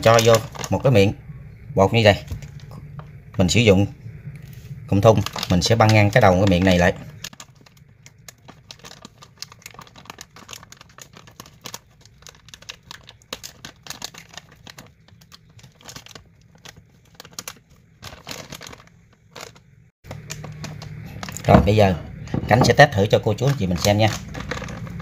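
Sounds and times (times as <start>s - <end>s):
plastic bag crinkling: 0.0s - 1.1s, 4.9s - 25.0s.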